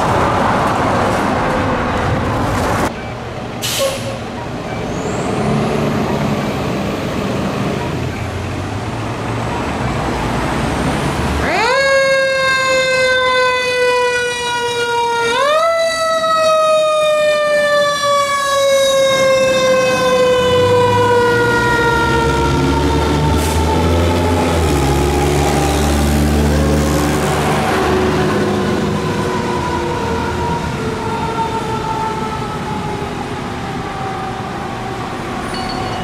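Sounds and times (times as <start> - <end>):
fire truck diesel engine rumbling: 0.0 - 36.0.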